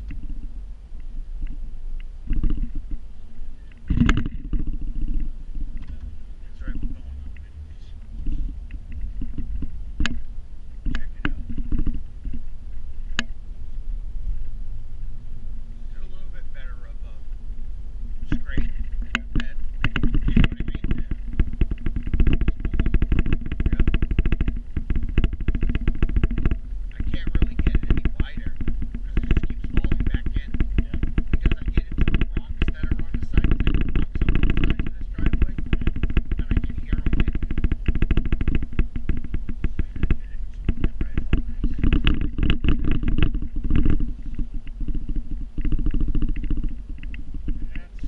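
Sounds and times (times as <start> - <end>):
engine running with even clatter: 0.0 - 48.0.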